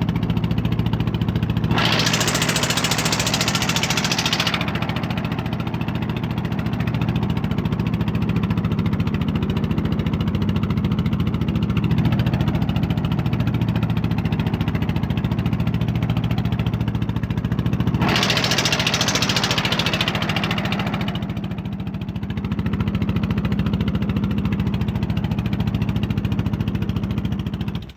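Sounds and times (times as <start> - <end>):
large engine idling: 0.0 - 27.9.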